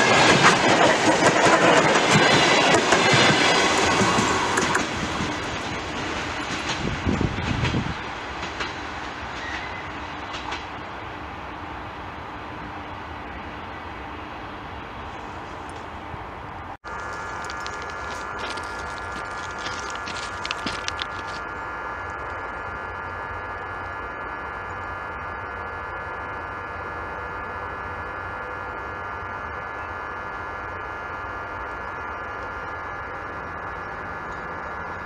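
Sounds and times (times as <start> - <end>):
high-pitched train whine: 0.0 - 35.0.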